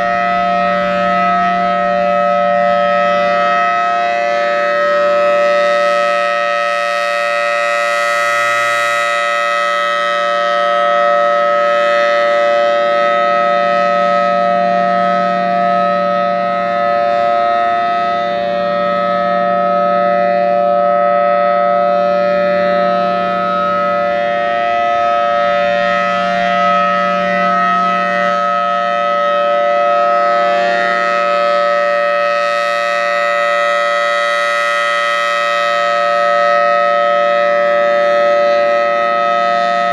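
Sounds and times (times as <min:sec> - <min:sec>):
steady warning siren: 0:00.0 - 0:39.9.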